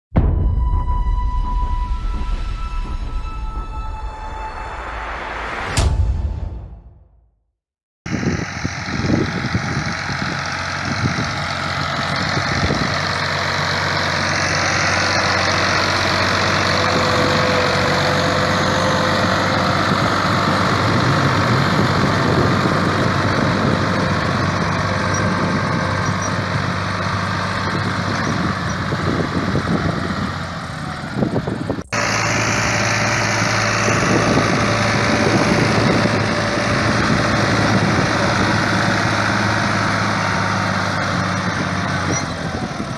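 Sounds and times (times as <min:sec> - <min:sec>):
tractor diesel engine running: 0:08.1 - 0:42.9.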